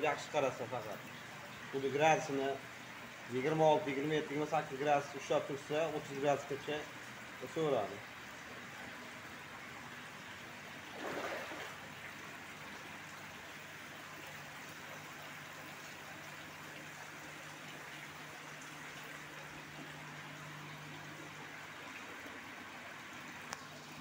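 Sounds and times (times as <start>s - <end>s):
water running and trickling: 0.0s - 24.0s.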